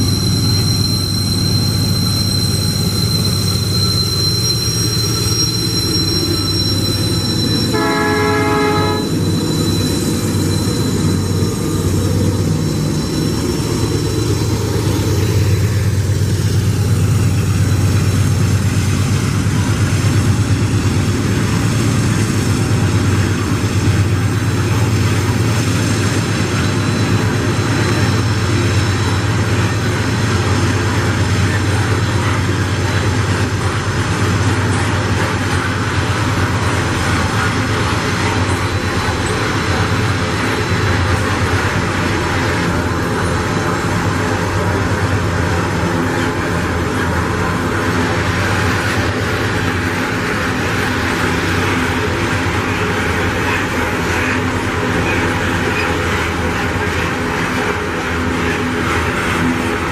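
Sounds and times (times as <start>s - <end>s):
diesel locomotive drone: 0.0s - 59.9s
freight wagons rolling on rails: 9.0s - 59.9s.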